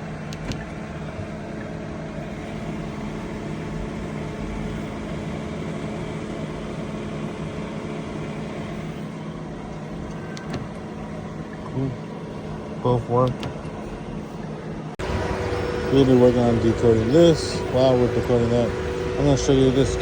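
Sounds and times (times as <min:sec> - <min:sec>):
car mechanical hum: 0:00.0 - 0:20.0.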